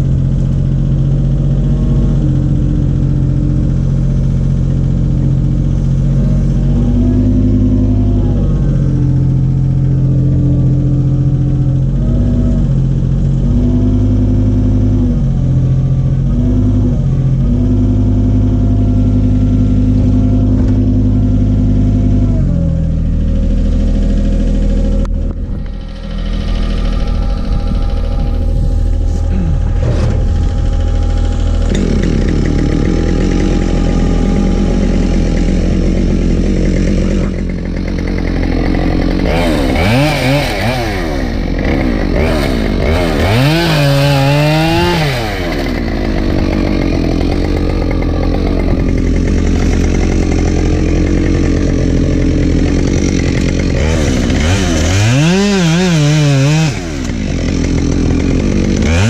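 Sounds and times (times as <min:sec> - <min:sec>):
chainsaw revving: 0:00.0 - 0:15.4, 0:16.2 - 0:59.0.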